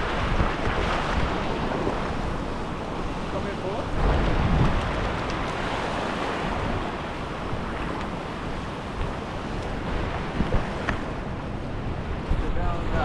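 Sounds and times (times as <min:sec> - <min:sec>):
sea and surf: 0:00.0 - 0:13.0
wind buffeting microphone: 0:00.0 - 0:13.0.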